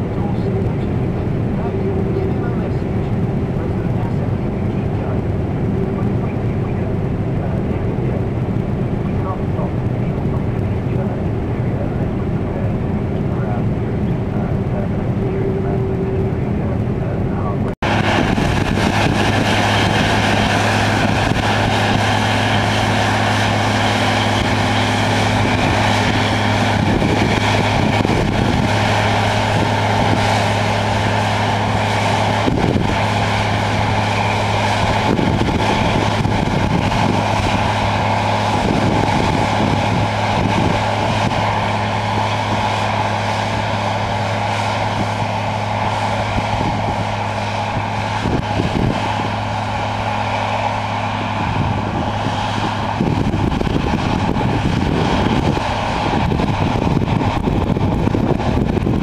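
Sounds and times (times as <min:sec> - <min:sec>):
combine harvester droning: 0:00.0 - 0:59.0.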